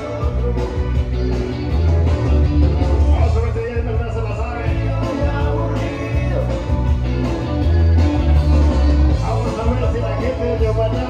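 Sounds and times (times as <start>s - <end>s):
loud dance music with singing: 0.0s - 11.0s.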